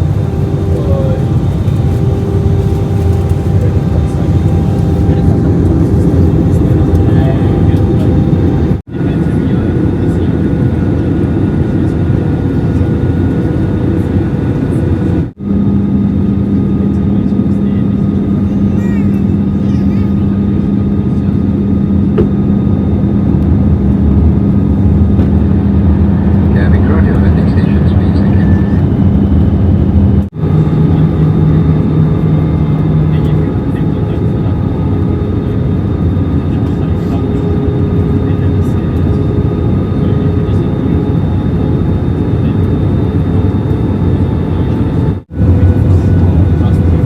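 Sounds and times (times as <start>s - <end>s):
aircraft cabin engine rumble: 0.0s - 47.0s.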